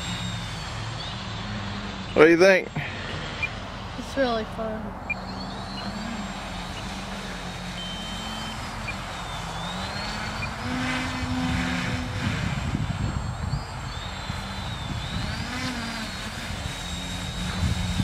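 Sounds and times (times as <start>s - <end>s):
electric motors and propellers whining: 0.0s - 18.0s.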